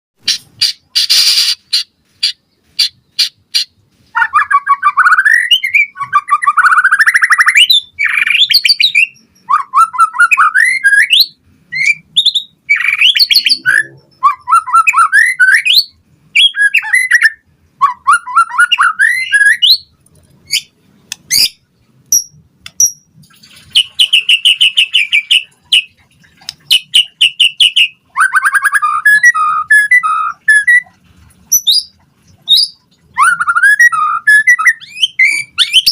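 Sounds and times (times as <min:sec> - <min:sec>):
bird singing varied song: 0:00.2 - 0:30.9, 0:31.5 - 0:35.9.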